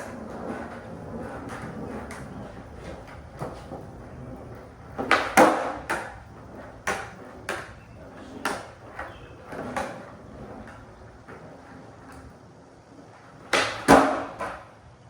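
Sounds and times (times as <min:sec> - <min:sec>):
skateboard knocking and clacking: 0:00.0 - 0:14.8.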